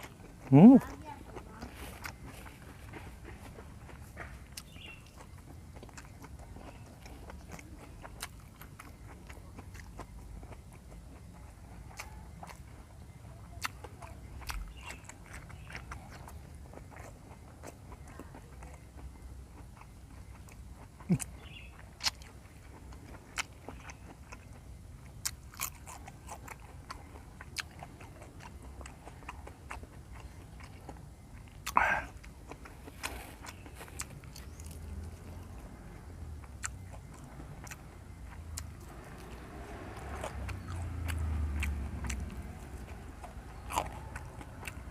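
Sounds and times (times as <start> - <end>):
chewing and crunching vegetables: 0.0 - 44.9.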